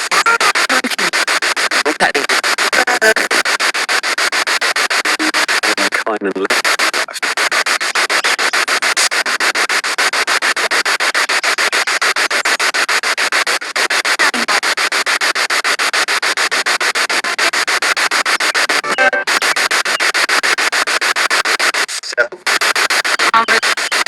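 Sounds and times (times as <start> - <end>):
pitched radio sound: 0.0 - 24.0
pulsing radio static: 0.0 - 24.0.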